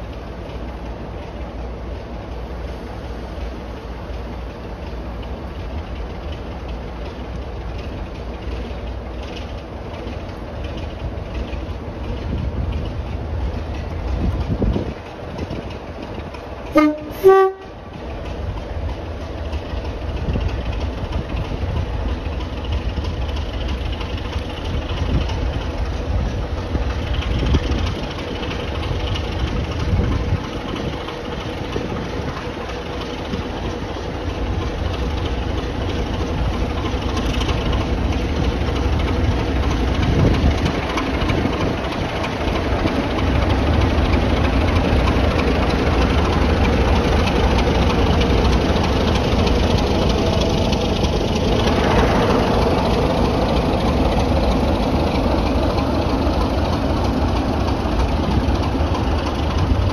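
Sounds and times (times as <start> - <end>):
locomotive diesel engine rumble: 0.0 - 59.9.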